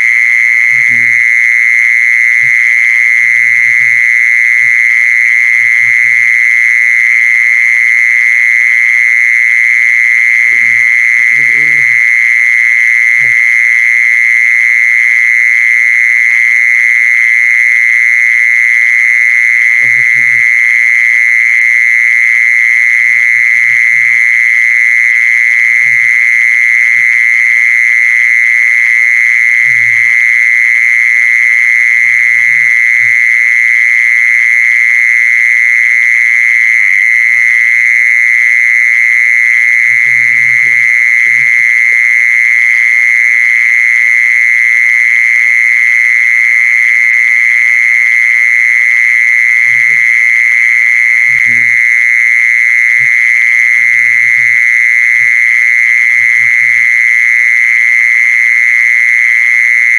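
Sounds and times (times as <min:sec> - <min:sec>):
mole cricket high buzz: 0:00.0 - 0:59.9.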